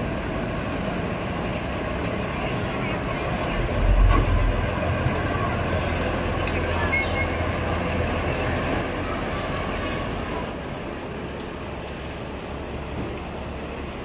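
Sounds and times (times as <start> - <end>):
diesel train rumbling past: 0.0 - 14.0.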